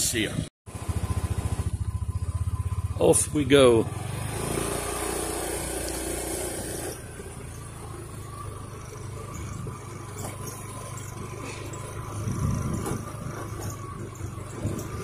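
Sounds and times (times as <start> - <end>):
road noise: 0.0 - 15.0
scooter engine running: 0.7 - 15.0.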